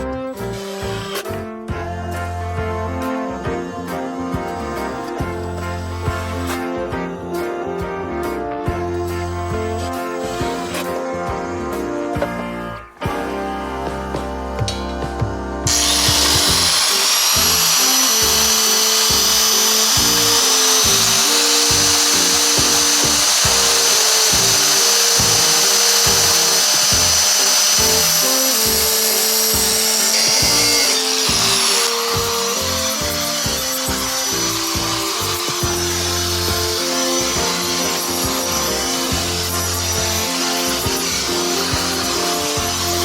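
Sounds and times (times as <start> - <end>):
power tool grinding metal: 0.0 - 12.4, 15.7 - 43.0
background music with beat: 0.0 - 43.0.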